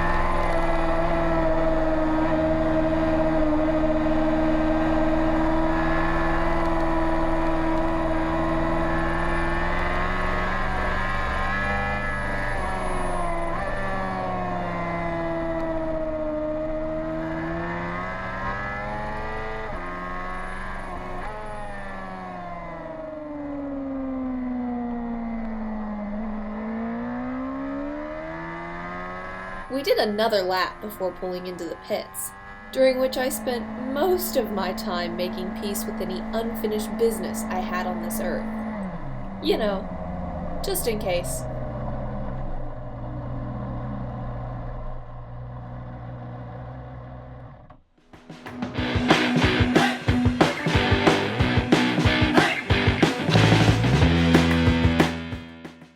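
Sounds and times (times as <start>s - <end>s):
racing motorcycle engine: 0.0s - 55.9s.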